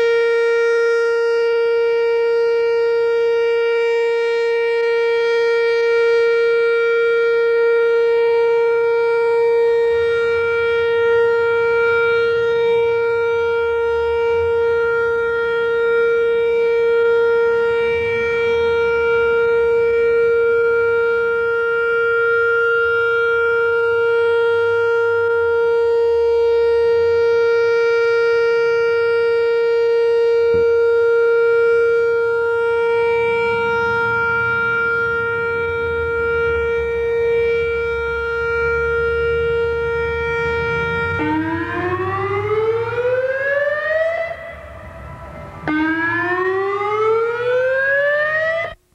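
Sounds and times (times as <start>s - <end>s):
steady warning siren tone: 0.0s - 48.9s.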